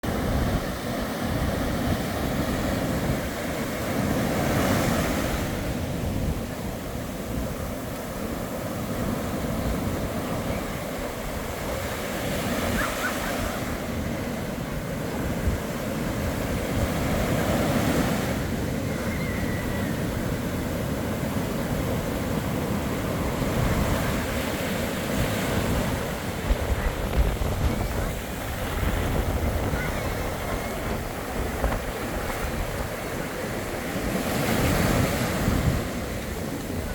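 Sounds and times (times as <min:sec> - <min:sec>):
surf breaking on beach: 0:00.0 - 0:36.9
wind buffeting microphone: 0:00.0 - 0:36.9.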